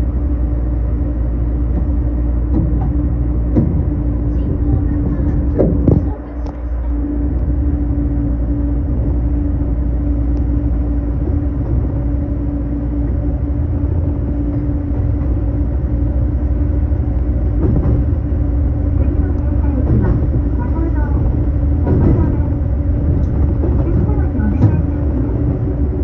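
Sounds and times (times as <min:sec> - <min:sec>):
constant hum: 0:00.0 - 0:26.0
train running rumble: 0:00.0 - 0:26.0.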